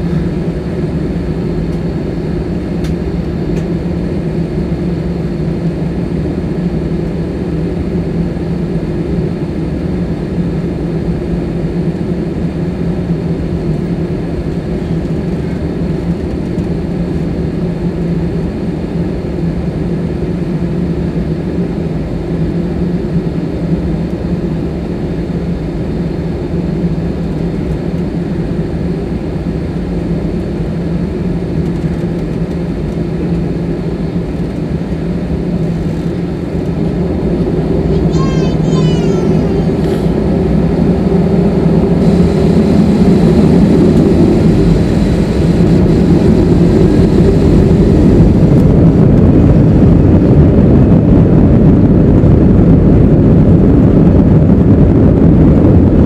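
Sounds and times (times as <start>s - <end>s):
jet engines idling: 0.0s - 55.7s
aircraft cabin hum: 0.0s - 56.0s.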